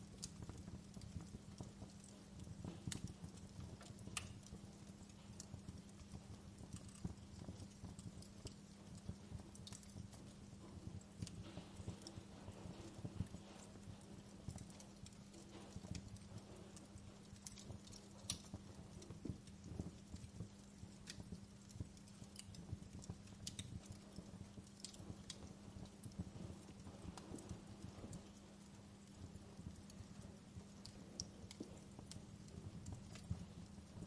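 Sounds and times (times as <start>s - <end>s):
faint steady hum: 0.0s - 34.0s
wood fire crackling: 0.0s - 34.0s.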